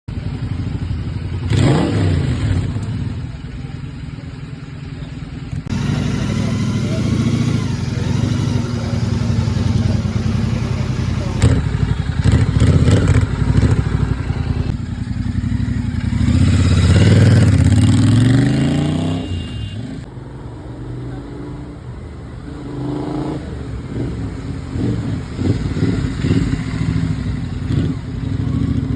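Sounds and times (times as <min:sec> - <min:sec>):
motorcycle engine revving: 0:00.1 - 0:20.1, 0:20.8 - 0:28.9.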